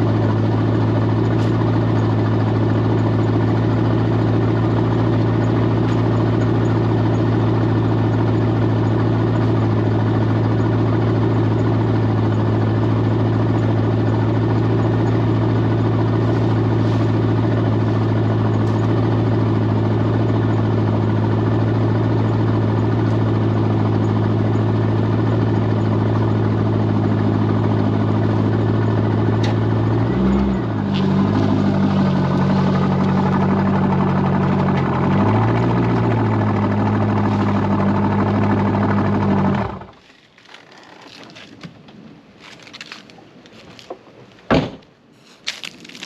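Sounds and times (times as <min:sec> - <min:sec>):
car engine idling: 0:00.0 - 0:44.4.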